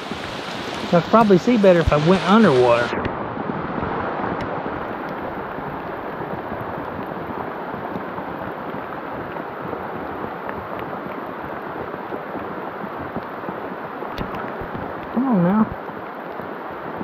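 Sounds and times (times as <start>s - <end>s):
heavy rain on water: 0.0s - 17.0s.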